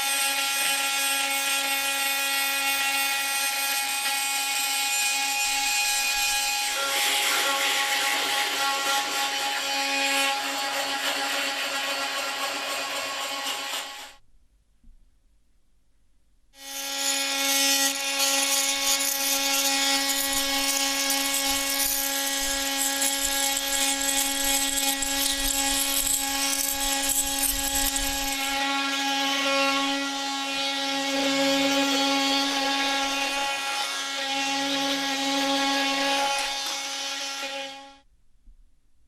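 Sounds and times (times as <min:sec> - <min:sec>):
oscillating multi-tool humming: 0:00.0 - 0:14.1, 0:16.6 - 0:37.8.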